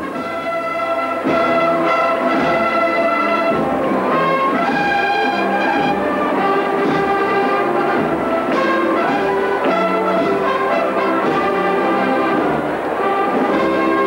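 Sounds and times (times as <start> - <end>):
brass band playing a slow march: 0.0 - 14.0.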